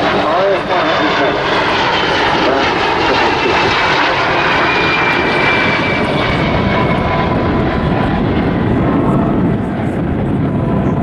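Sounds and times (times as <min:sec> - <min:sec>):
faint high jet whine: 0:00.0 - 0:11.0
jets flying past: 0:00.0 - 0:11.0.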